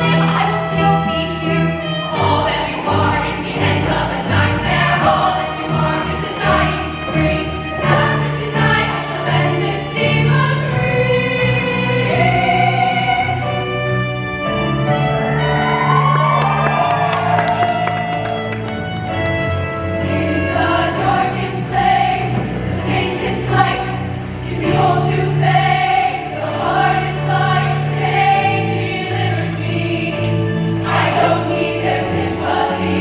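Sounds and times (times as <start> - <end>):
choir singing in harmony: 0.0 - 16.3, 19.8 - 33.0
instrumental accompaniment: 0.0 - 33.0.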